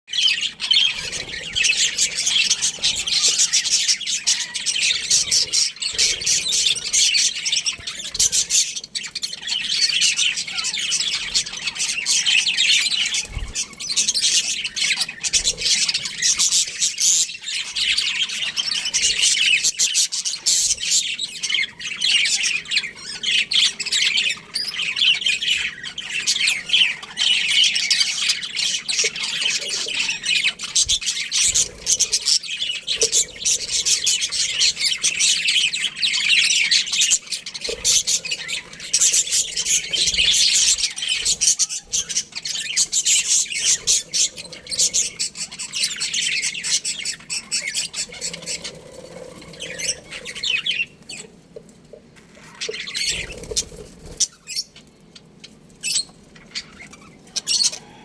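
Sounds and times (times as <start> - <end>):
budgerigars chattering and chirping: 0.1 - 58.0.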